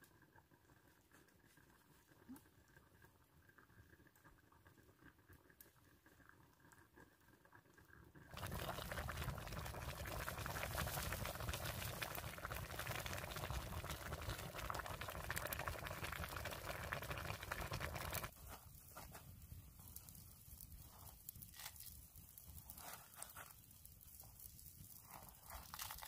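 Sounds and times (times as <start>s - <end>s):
liquid boiling and crackling: 0.0s - 26.0s.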